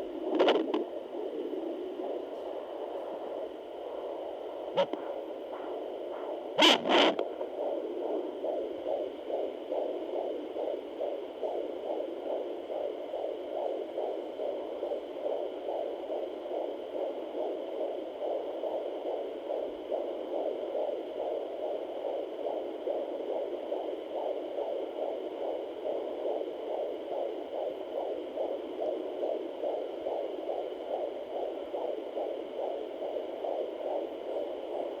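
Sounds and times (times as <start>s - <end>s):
fetal heartbeat through speaker: 0.0s - 35.0s.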